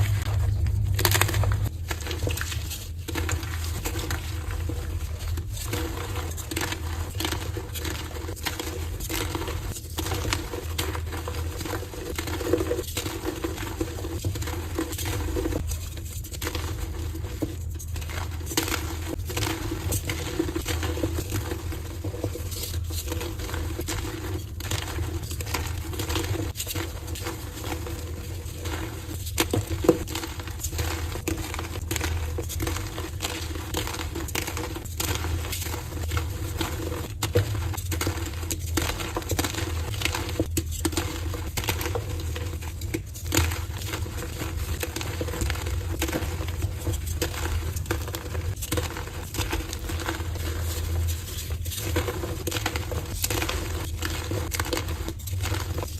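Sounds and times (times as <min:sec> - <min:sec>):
chalk crunching and crackling: 0:00.0 - 0:55.9
constant low hum: 0:00.0 - 0:55.9.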